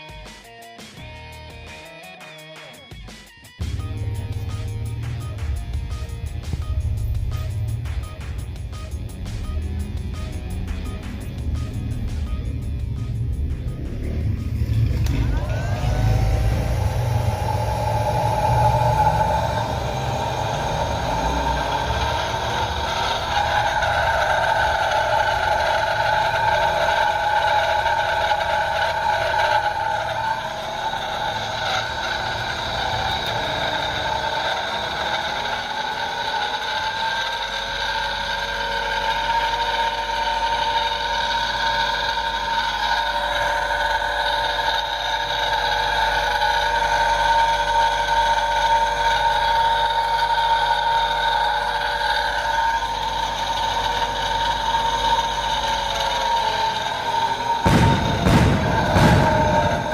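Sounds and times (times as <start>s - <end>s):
electric motor whine: 3.6s - 59.9s.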